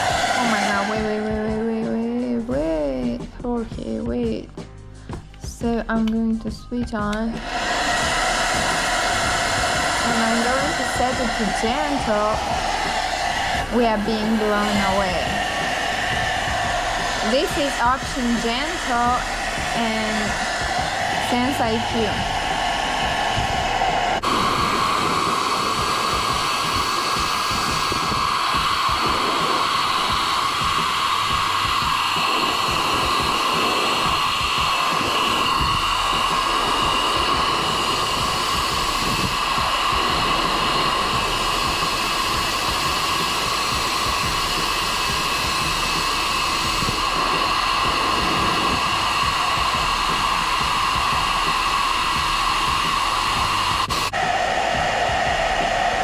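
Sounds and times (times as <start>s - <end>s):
hair dryer whirring: 0.0s - 4.4s, 5.1s - 56.0s.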